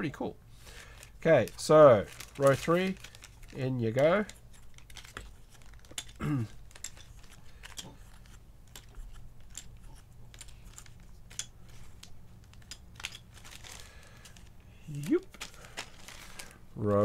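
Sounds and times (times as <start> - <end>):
plastic bag rustling: 0.6 - 17.0.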